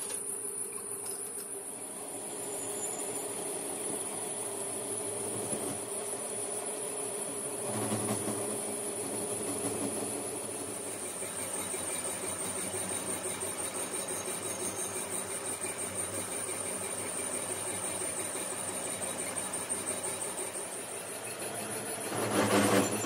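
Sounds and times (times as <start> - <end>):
lathe humming with high whine: 0.0 - 23.0.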